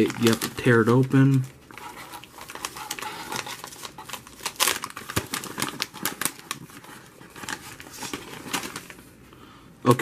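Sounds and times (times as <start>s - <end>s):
plastic package crinkling: 0.0s - 9.1s.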